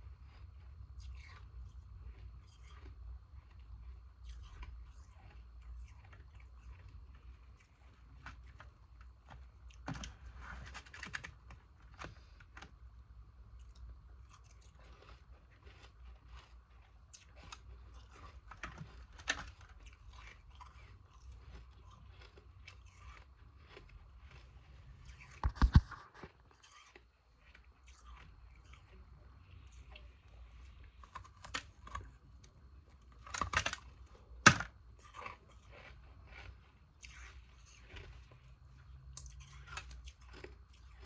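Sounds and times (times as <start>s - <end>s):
chewing and crunching ice: 0.0s - 41.0s.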